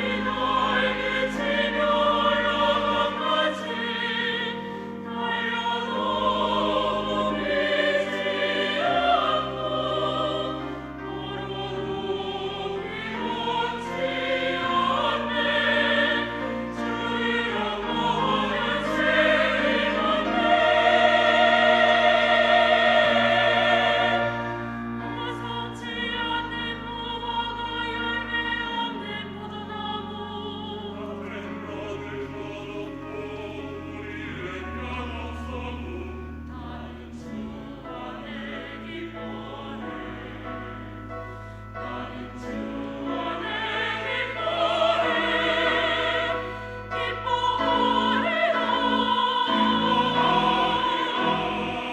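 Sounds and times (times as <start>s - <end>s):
choir singing: 0.0s - 51.9s
instrumental accompaniment: 0.0s - 51.9s.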